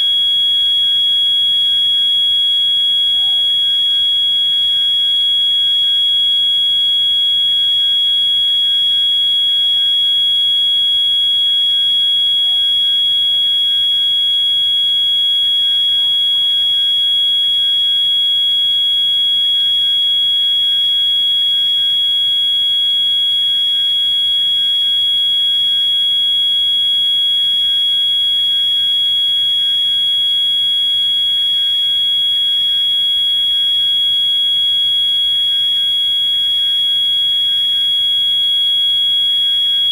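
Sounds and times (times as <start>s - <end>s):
fire alarm high-pitched tone: 0.0s - 39.9s.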